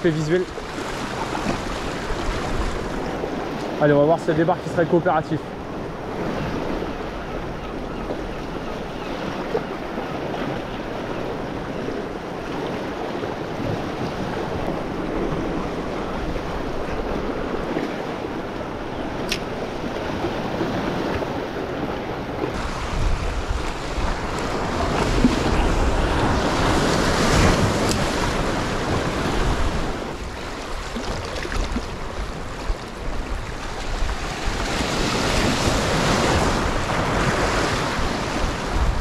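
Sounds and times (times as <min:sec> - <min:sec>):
wind buffeting microphone: 0:00.0 - 0:03.8, 0:05.5 - 0:39.0
waves splashing over rocks: 0:00.0 - 0:05.6, 0:12.4 - 0:39.0.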